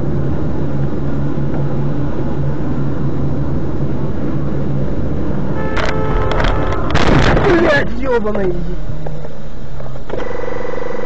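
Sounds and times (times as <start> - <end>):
tyre noise on wet road: 0.0 - 10.5
car engine hum: 0.0 - 11.0.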